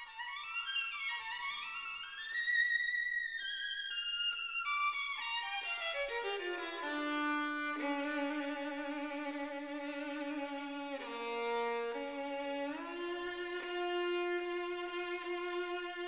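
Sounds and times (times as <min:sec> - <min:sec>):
classical violin music: 0:00.0 - 0:16.0.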